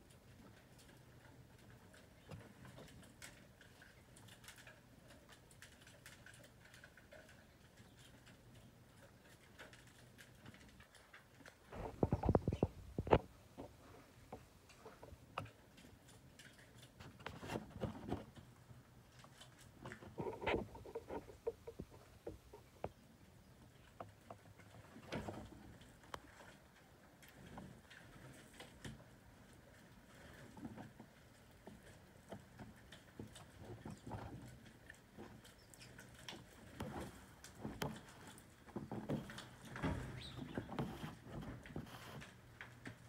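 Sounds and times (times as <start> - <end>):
light pattering and pecking: 0.0 - 43.0.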